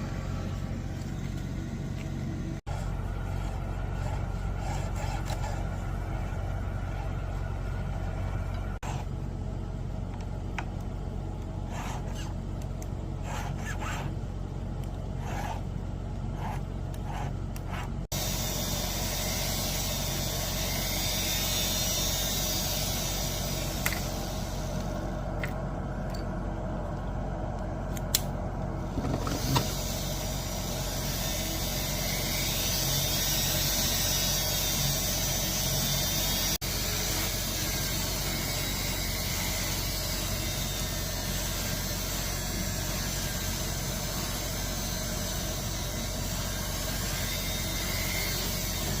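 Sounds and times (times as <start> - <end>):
steady mechanical noise: 0.0 - 49.0.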